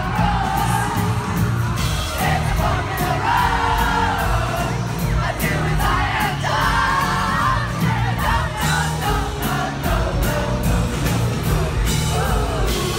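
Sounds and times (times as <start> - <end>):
band playing a steady beat: 0.0 - 12.9
crowd noise: 0.0 - 12.9.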